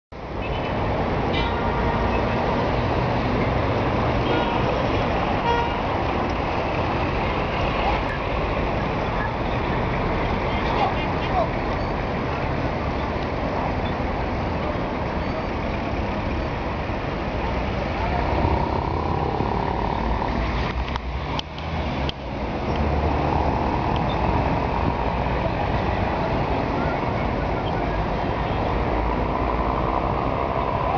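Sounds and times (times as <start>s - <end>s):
road traffic rumble: 0.1s - 30.9s.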